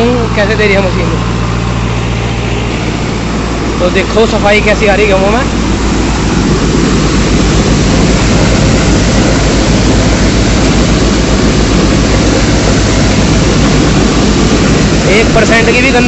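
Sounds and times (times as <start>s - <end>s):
low engine hum: 0.0s - 16.0s
thresher mechanical din: 0.0s - 16.0s.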